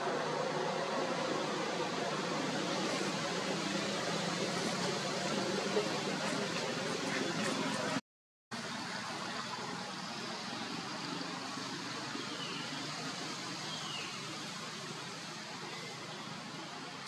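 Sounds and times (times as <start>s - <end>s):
outdoor background hiss: 0.0s - 8.0s, 8.6s - 17.0s.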